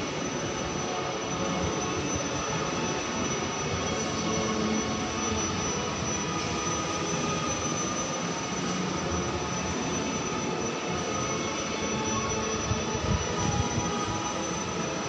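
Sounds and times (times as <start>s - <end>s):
exhibition hall background noise: 0.0s - 15.0s.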